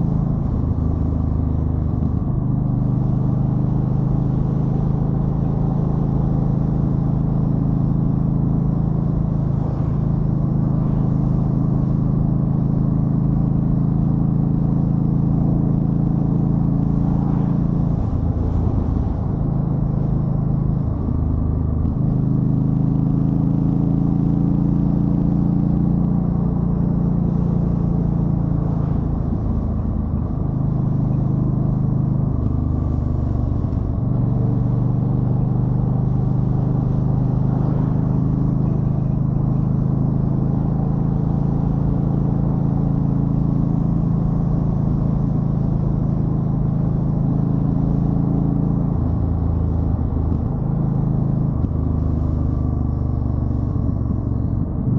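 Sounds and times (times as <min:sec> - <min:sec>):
motorcycle engine droning: 0:00.0 - 0:54.9.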